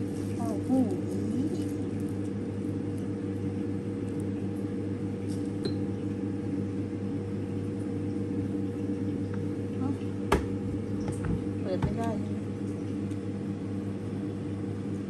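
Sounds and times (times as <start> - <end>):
electric appliance hum: 0.0 - 15.0.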